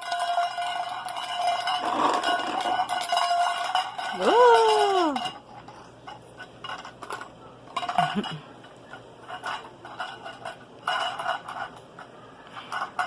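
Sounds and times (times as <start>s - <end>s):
toy cookware clattering: 0.0s - 13.0s.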